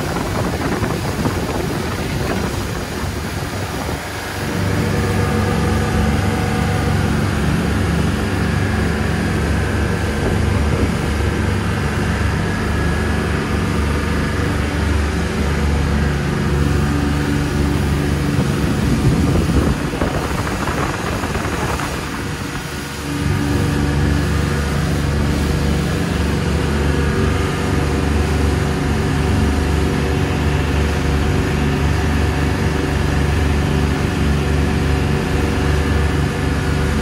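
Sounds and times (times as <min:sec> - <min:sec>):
boat engine drone: 0:00.0 - 0:37.0
water rushing along hull: 0:00.0 - 0:37.0.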